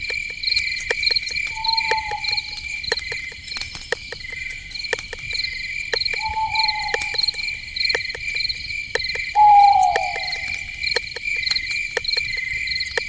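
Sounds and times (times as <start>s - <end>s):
crickets and insects chorus: 0.0s - 13.0s
sharp clicks: 0.0s - 13.0s.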